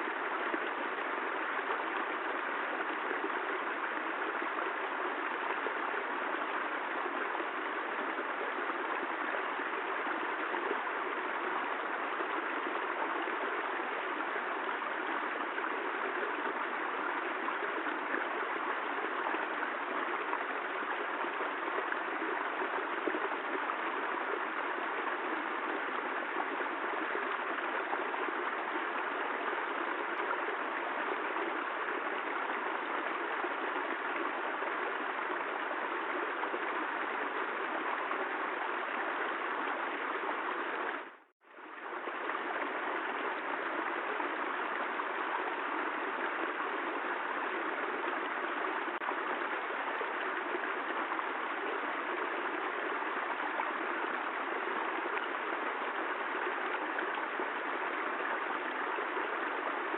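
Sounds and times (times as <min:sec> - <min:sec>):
steady dense rain: 0:00.0 - 0:59.9.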